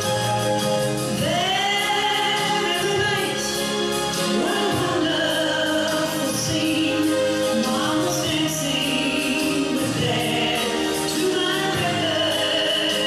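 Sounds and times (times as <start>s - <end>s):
waltz pop song: 0.0s - 13.0s.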